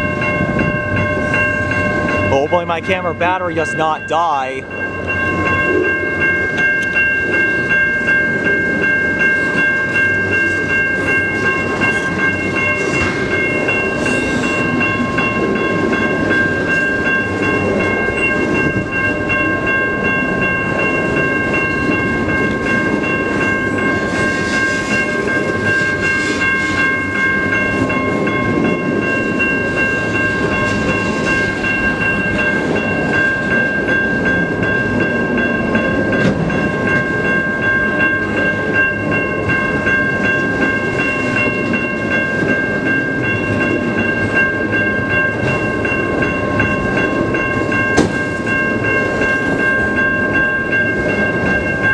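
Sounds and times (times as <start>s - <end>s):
freight train cars rolling past: 0.0s - 51.9s
high steady ringing tones: 0.0s - 51.9s.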